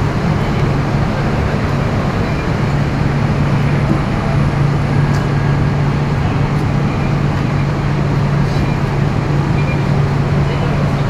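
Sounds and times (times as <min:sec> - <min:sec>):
bus diesel engine humming: 0:00.0 - 0:11.0
road and body noise: 0:00.0 - 0:11.0.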